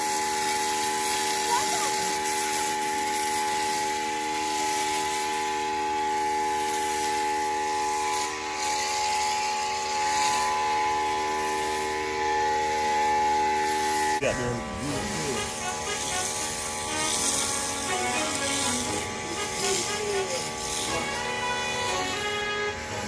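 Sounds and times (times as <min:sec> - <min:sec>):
pressure washer motor whine: 0:00.0 - 0:23.0
water spray hissing: 0:00.0 - 0:23.0.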